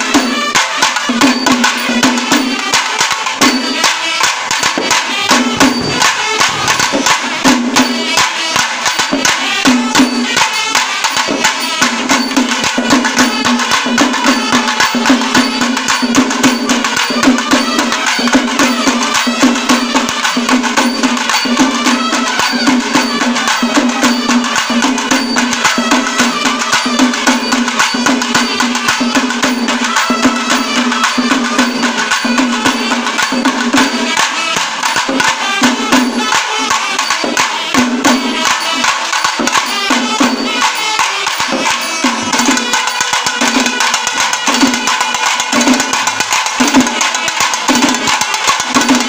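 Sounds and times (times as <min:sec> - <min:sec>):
barrel drums beaten with sticks: 0:00.0 - 0:49.0.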